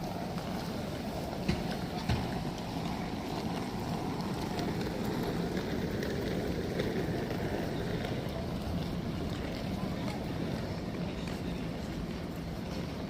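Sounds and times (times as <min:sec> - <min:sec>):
rain on city street: 0:00.0 - 0:13.0.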